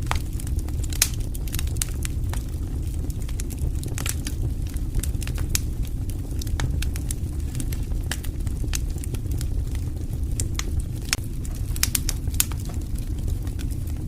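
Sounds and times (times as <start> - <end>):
fire popping and snapping: 0.0 - 14.0
wood fire crackling: 0.0 - 14.0.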